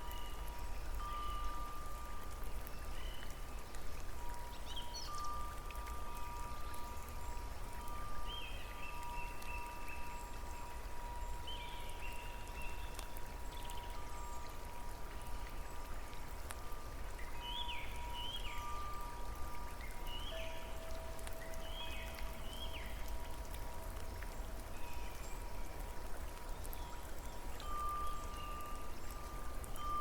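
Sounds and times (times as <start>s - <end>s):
rain drops pattering: 0.0s - 30.0s.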